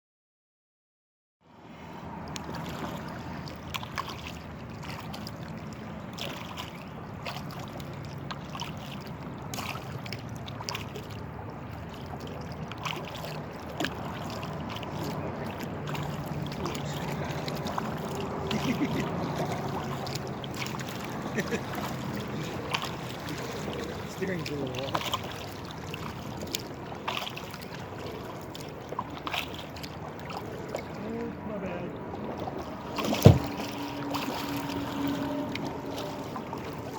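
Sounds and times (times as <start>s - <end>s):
water washing along hull: 1.5s - 36.9s.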